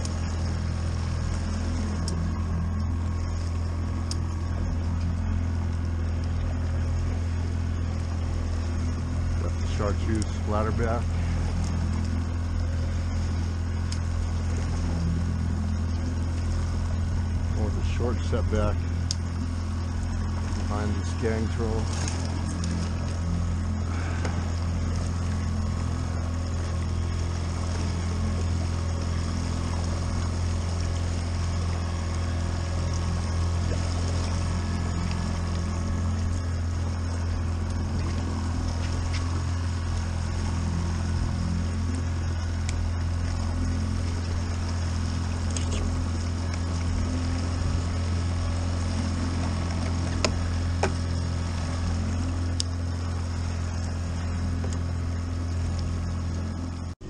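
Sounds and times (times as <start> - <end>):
boat motor droning: 0.0 - 57.0
water noise: 0.0 - 57.0.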